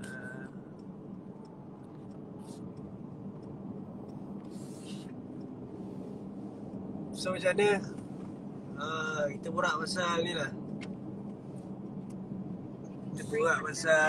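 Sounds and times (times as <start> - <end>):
car cabin drone: 0.0 - 14.0.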